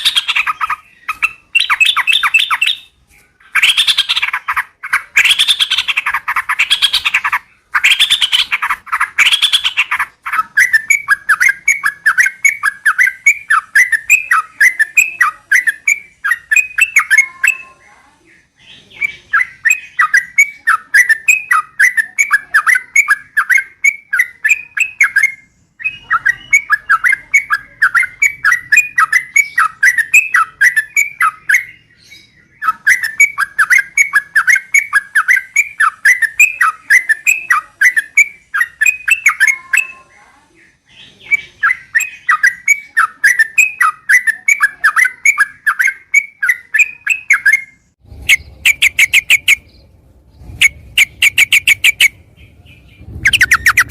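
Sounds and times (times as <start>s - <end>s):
bird singing chattering phrases: 0.0s - 53.9s.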